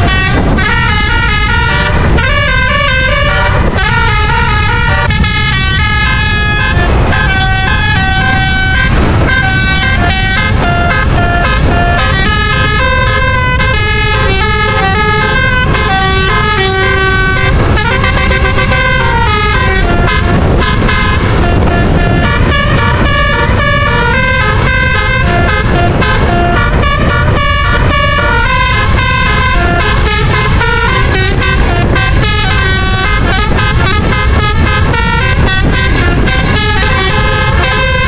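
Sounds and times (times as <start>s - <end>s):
low rumble: 0.0s - 38.0s
musical air horn playing a tune: 0.0s - 38.0s.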